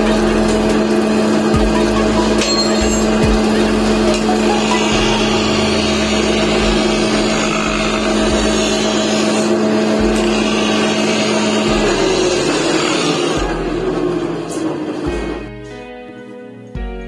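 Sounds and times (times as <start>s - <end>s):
grinding wheel grinding steel: 0.0s - 15.6s
planer motor hum: 0.0s - 15.7s.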